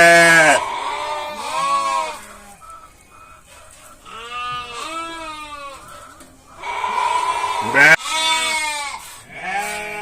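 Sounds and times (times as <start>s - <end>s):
sheep bleating: 0.0s - 2.7s, 4.1s - 10.0s.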